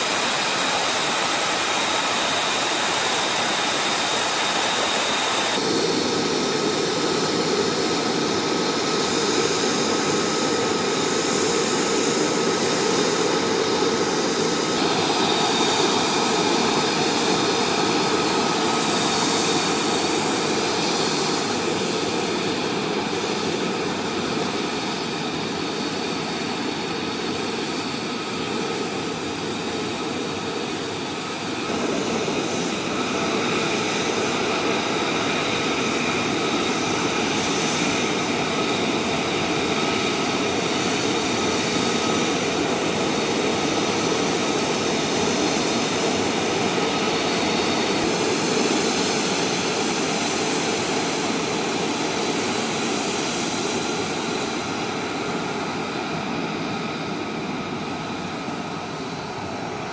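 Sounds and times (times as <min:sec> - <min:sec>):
jet engine idling with whine: 0:00.0 - 0:59.9.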